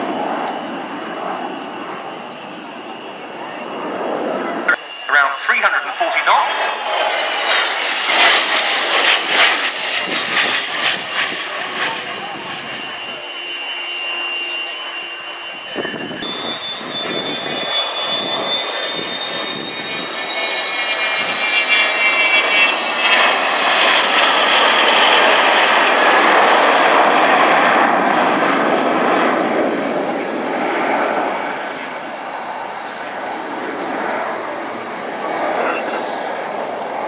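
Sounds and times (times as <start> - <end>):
jet aircraft passing overhead: 0.0 - 37.0.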